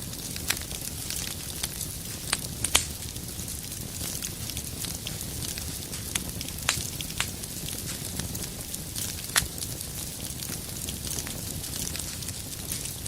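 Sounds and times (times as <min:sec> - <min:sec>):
fire crackling: 0:00.0 - 0:13.0
fire low rumble: 0:00.0 - 0:13.0
sharp fire pops: 0:00.0 - 0:13.0.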